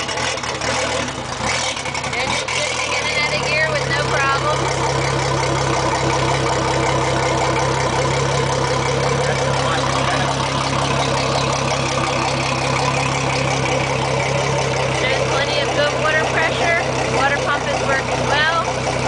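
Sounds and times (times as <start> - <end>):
outboard engines idling: 0.0 - 19.0.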